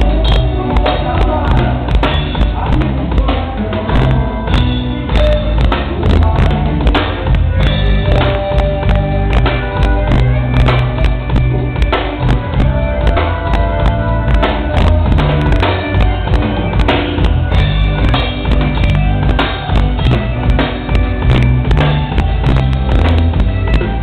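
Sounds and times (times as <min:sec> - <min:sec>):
deep bass line: 0:00.0 - 0:24.0
drum kit beat: 0:00.0 - 0:24.0.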